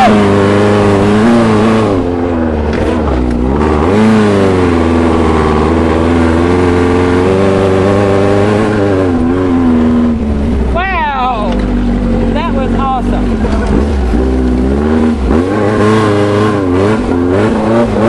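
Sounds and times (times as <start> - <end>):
dune buggy engine running: 0.0 - 18.0.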